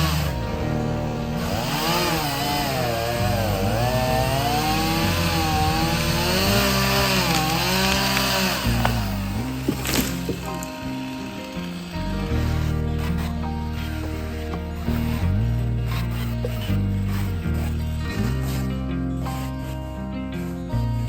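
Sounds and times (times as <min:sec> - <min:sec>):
background music: 0:00.0 - 0:21.0
chainsaw cutting wood: 0:00.0 - 0:21.0.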